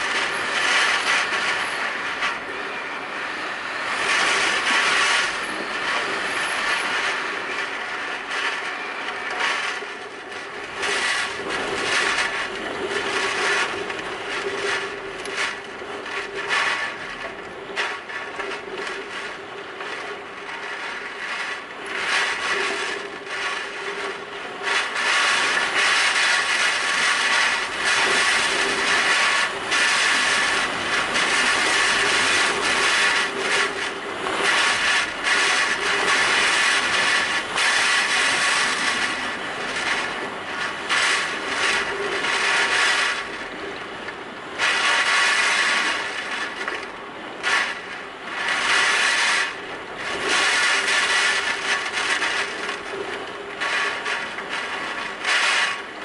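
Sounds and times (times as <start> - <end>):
driving rain: 0.0 - 56.0
strong gusting wind: 0.0 - 56.0.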